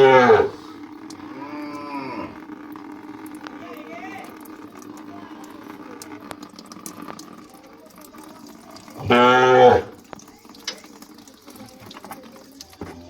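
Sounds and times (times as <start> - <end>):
faint hiss and ticks: 0.6 - 9.0, 10.0 - 12.9.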